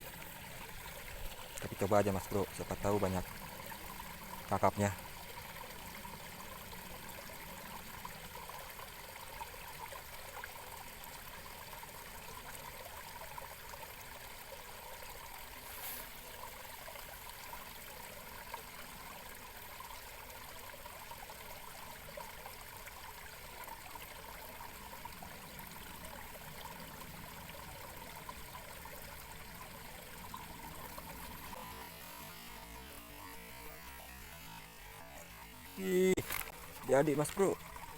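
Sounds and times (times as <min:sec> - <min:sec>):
trickling flowing water: 0:00.0 - 0:37.9.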